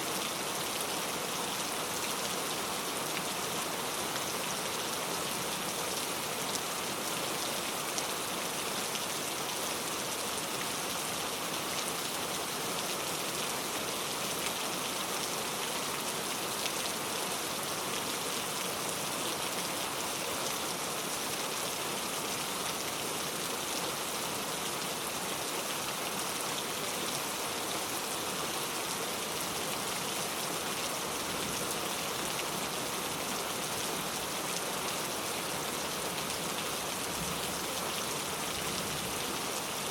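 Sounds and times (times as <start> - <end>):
heavy rain on a road: 0.1 - 39.9.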